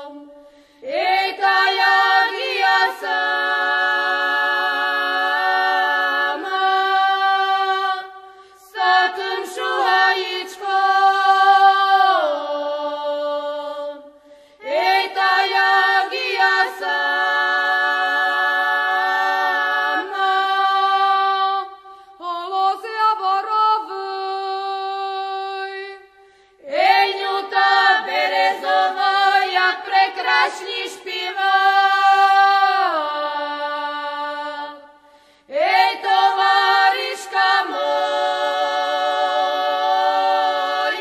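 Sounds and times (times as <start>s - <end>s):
voices singing in harmony: 0.0s - 41.0s.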